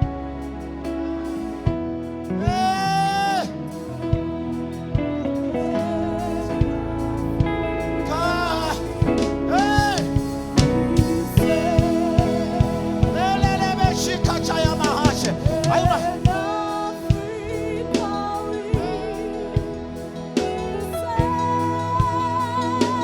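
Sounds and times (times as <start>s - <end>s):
keyboard chords: 0.0s - 23.0s
person singing: 2.3s - 3.9s, 5.1s - 23.0s.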